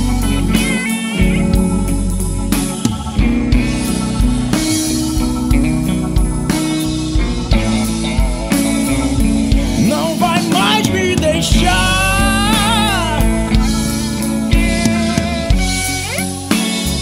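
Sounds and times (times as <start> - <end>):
lead guitar with vibrato: 0.0 - 17.0
rock band playing: 0.0 - 17.0.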